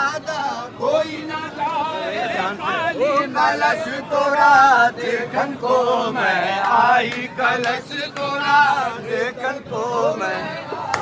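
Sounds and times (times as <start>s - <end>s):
men chanting a devotional song: 0.0s - 11.0s.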